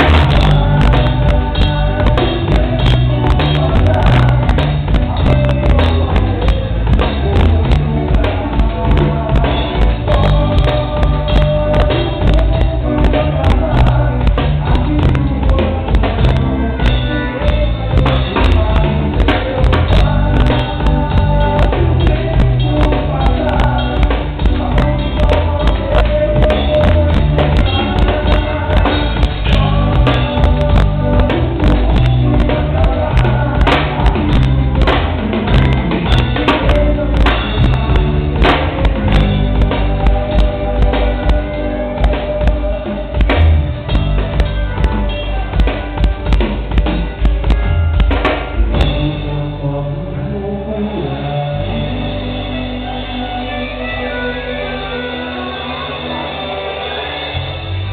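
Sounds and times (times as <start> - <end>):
drum kit beat: 0.0 - 49.6
band playing a song: 0.0 - 57.9
person singing: 0.0 - 57.9.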